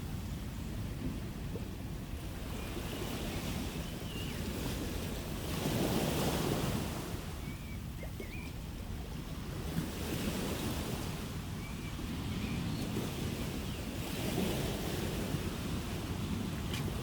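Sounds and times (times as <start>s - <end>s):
low rumble of waves: 0.0s - 17.0s.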